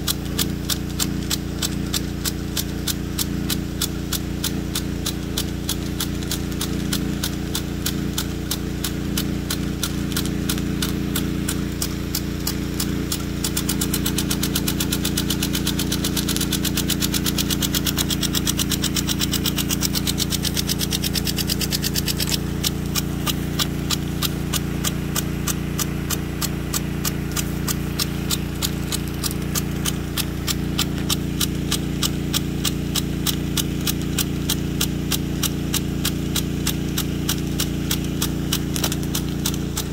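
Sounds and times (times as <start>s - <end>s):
pump hum: 0.0s - 39.9s
sprinkler arm clacking: 0.0s - 39.9s.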